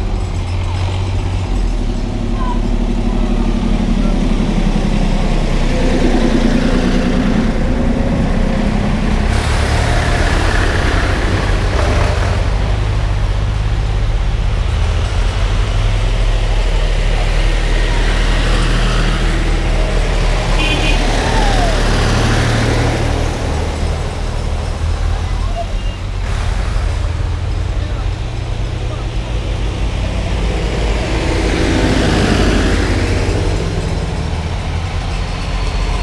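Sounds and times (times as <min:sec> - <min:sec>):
tractor engines driving past: 0:00.0 - 0:36.0.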